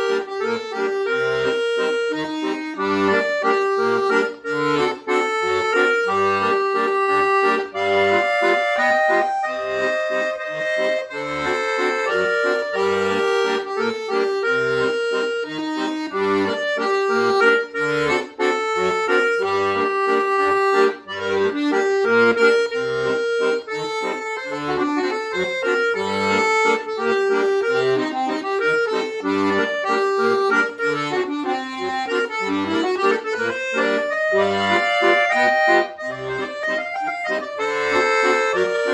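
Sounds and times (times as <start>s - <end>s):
button accordion solo: 0.0s - 38.9s.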